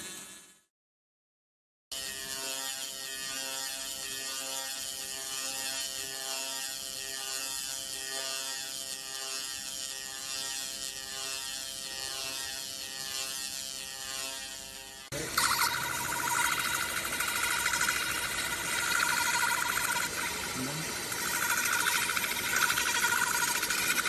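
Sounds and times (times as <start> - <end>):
laser crackling buzz with hiss: 2.0 - 24.0.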